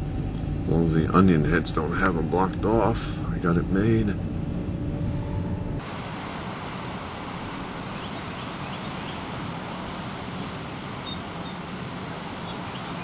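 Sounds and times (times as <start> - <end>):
wind: 0.0 - 13.0
storm surf breaking: 0.7 - 13.0.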